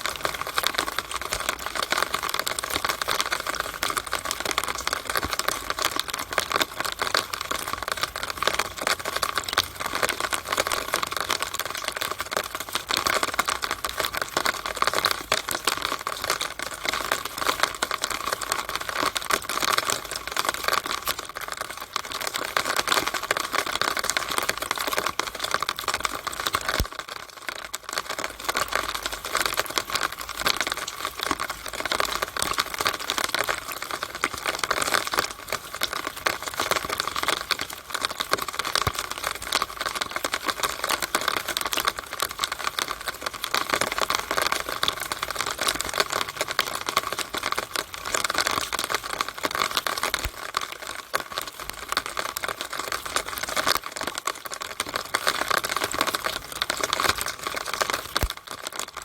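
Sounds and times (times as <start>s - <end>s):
spatter of small drips: 0.0s - 59.0s
water rushing through downspout: 0.0s - 59.0s.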